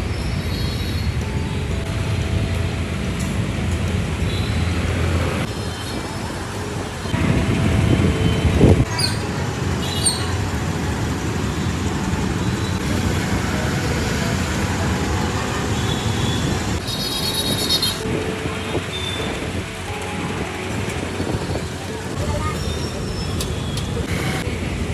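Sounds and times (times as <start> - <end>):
street traffic noise: 0.0 - 24.9.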